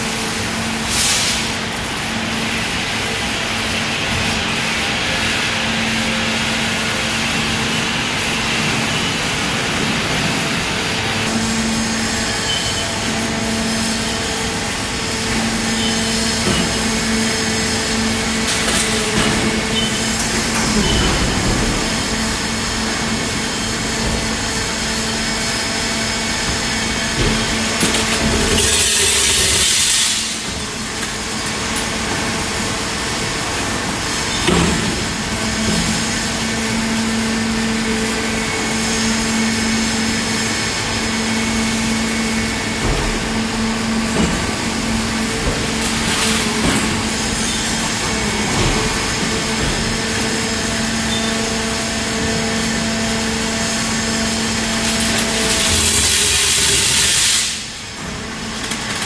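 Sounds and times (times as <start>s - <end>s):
hydraulic power unit humming: 0.0s - 59.0s.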